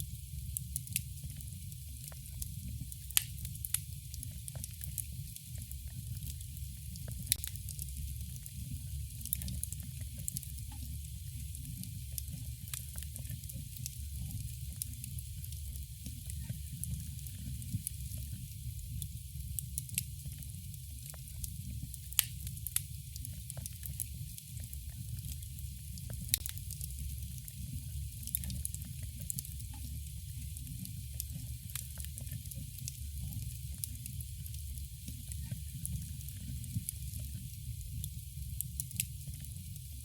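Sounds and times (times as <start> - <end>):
burning wood crackling and popping: 0.0 - 39.9
campfire flame rumble: 0.0 - 40.0.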